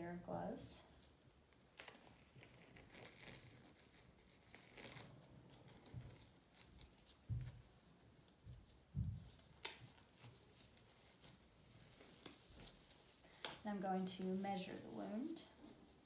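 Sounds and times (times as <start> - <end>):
rustling of exam gloves: 0.2 - 16.0.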